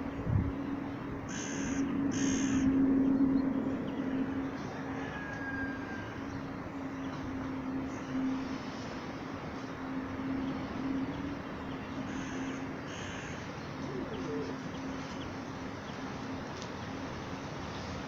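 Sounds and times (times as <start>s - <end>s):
steady low drone: 0.0s - 17.7s
outdoor background noise: 0.0s - 18.0s.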